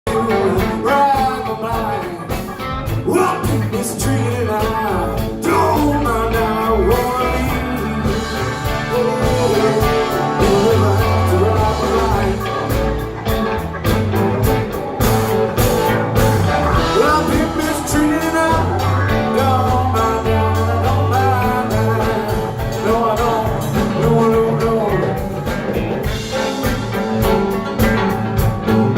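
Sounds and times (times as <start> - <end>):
blues rock band playing: 0.0 - 28.9.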